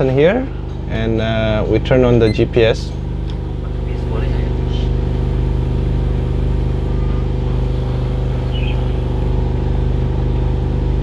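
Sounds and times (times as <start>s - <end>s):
generator humming: 0.0s - 11.0s.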